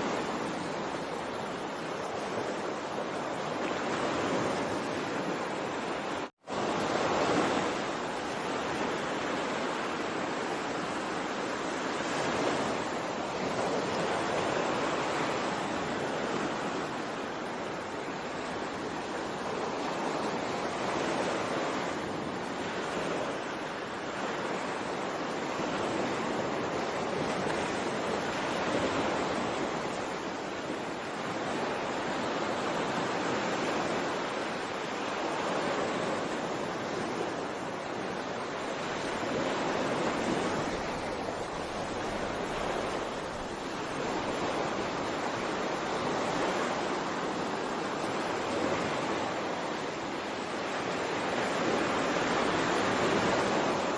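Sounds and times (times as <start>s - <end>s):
water washing in waves: 0.0s - 53.9s.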